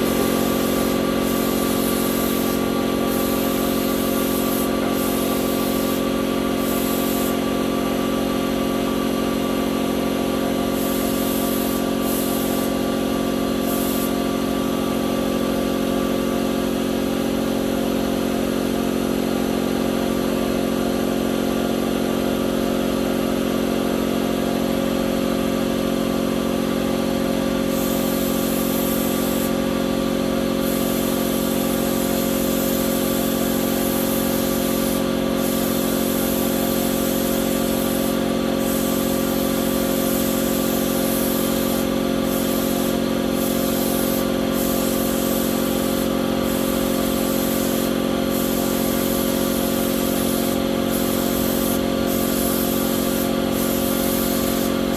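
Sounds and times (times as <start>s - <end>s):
motor humming steadily: 0.0s - 54.9s.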